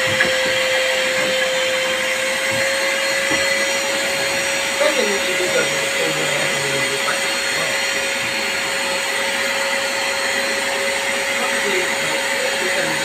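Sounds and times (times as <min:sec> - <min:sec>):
shop vacuum running: 0:00.0 - 0:13.0.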